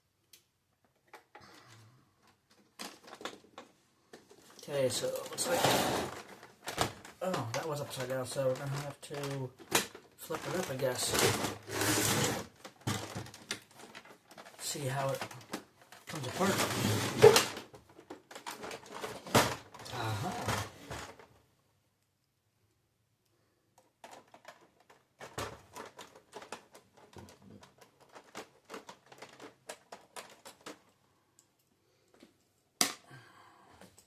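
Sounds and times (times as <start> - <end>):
plastic parts clicking: 0.2 - 5.5, 6.1 - 21.3, 23.7 - 33.1.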